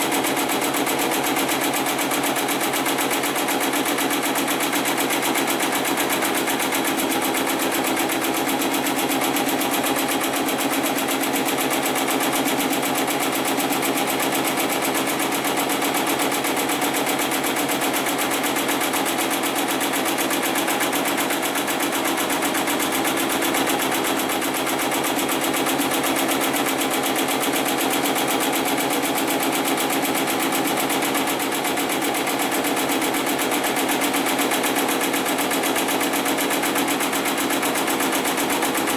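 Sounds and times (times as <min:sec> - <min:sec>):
sewing machine stitching: 0:00.0 - 0:38.9.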